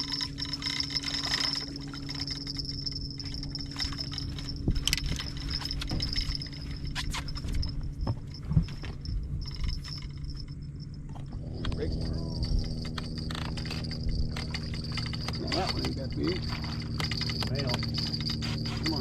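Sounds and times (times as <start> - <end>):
low hum: 0.0 - 19.0
thin high whine: 0.0 - 19.0.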